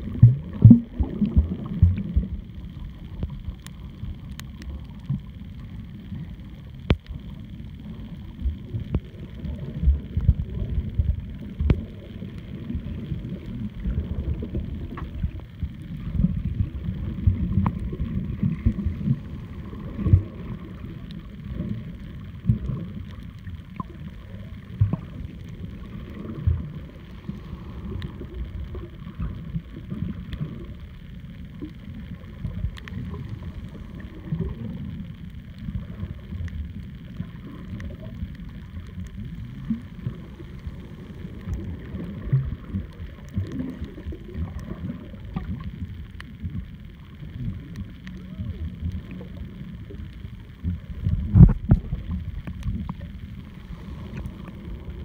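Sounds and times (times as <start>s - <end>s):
underwater rumble of moving water: 0.0s - 55.0s.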